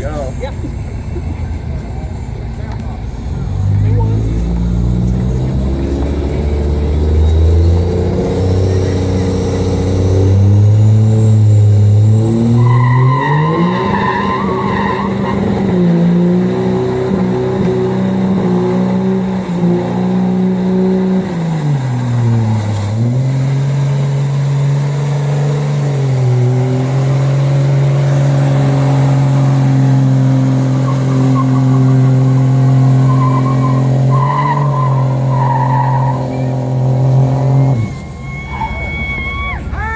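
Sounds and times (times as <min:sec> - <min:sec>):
car engine accelerating through gears: 0:02.7 - 0:38.1.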